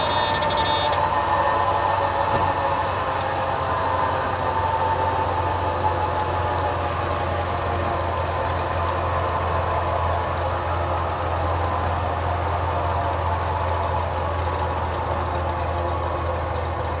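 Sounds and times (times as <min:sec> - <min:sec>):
propeller plane engine idling: 0:00.0 - 0:17.0.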